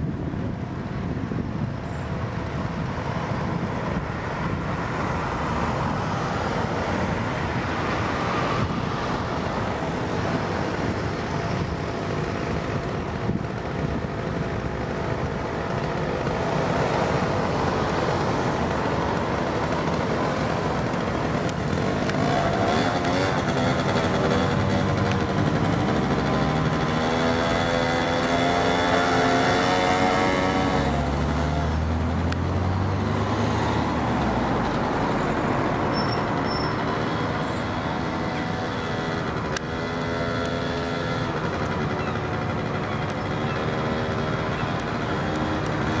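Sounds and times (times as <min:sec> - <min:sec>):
vehicles passing on road: 0:00.0 - 0:46.0.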